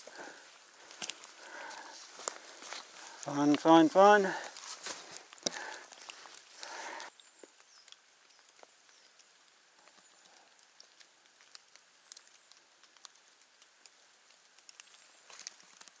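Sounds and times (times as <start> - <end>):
faint raindrop ticks: 0.1 - 16.0.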